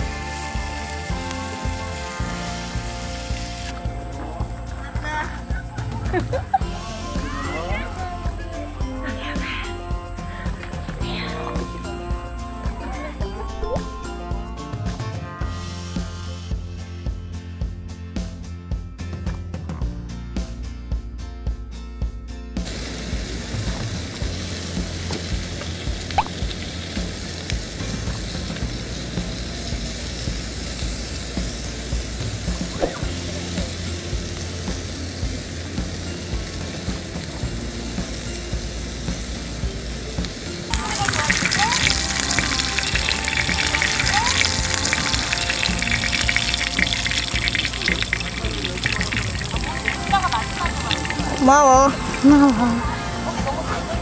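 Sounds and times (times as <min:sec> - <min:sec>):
pork belly sizzling on grill: 0:00.0 - 0:13.9, 0:22.6 - 0:54.0
music with a beat: 0:00.0 - 0:54.0.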